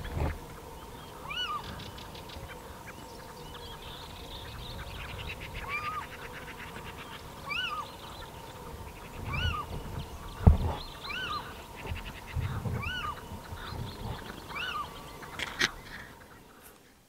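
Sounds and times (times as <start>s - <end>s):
owl calling: 0.0s - 16.6s.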